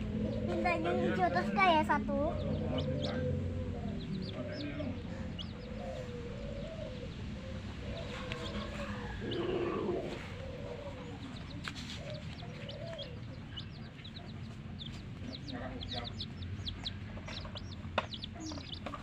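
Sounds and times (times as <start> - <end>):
chicks peeping: 0.0 - 19.0
hen calling: 0.0 - 19.0.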